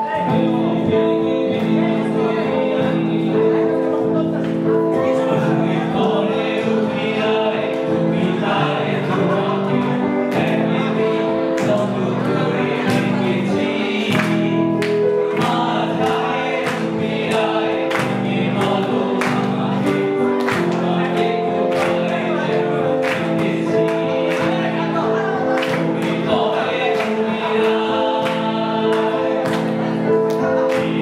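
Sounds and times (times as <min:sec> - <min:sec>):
electronic keyboard chords: 0:00.0 - 0:31.0
men singing into microphones: 0:00.0 - 0:31.0.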